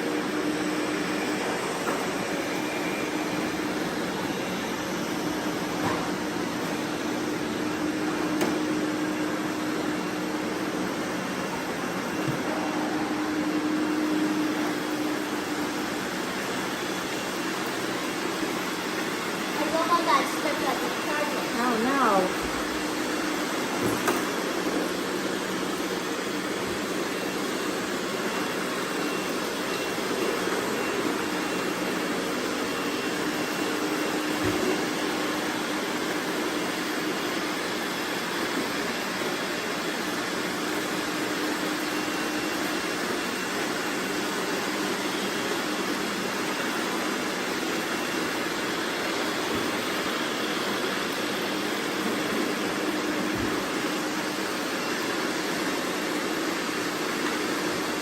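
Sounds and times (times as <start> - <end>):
robot vacuums whirring: 0.0 - 58.0.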